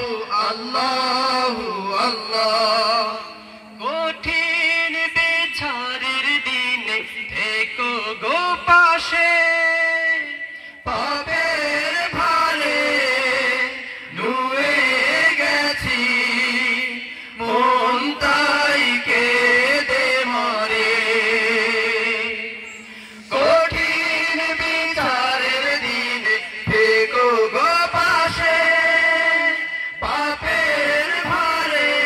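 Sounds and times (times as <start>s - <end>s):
men singing devotional song: 0.0s - 32.0s.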